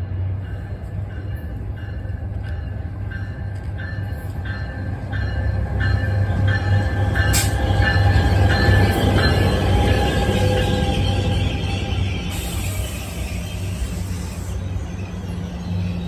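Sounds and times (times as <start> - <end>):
train bell ringing: 0.0 - 16.0.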